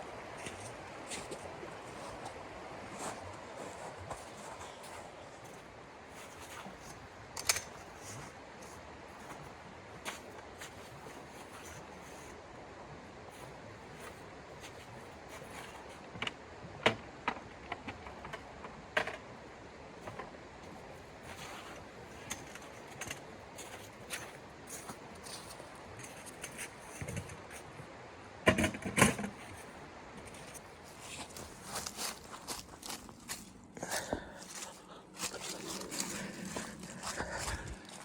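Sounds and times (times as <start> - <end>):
steady low hiss: 0.0 - 38.0.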